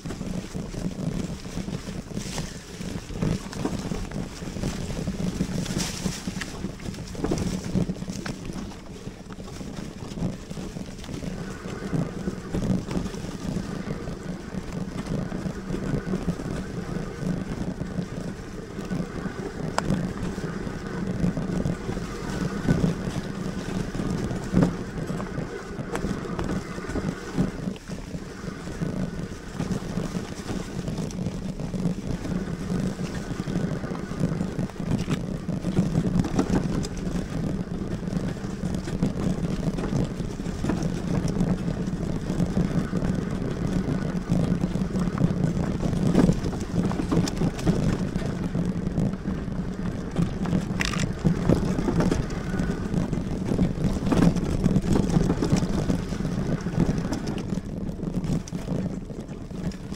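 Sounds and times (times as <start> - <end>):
bike knocking and rattling: 0.0 - 59.9
tyres rumbling on dirt: 0.0 - 59.9
wind on microphone: 0.0 - 59.9.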